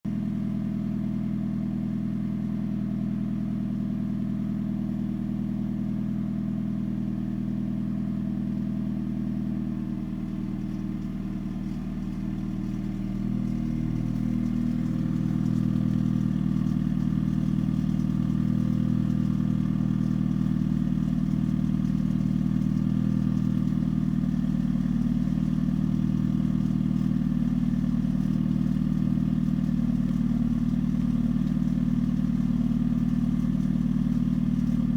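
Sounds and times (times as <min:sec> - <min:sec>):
car engine running with rattle: 0:00.1 - 0:34.9.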